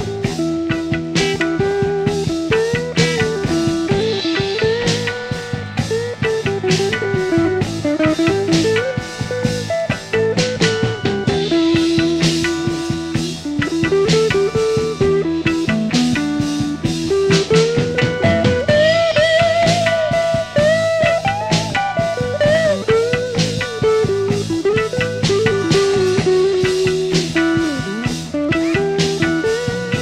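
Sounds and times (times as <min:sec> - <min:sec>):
electric guitar melody: 0:00.0 - 0:30.0
rock band playing: 0:00.0 - 0:30.0.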